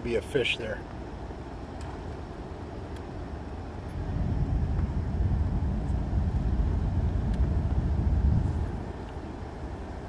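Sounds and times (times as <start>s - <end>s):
wind buffeting microphone: 1.7s - 10.0s.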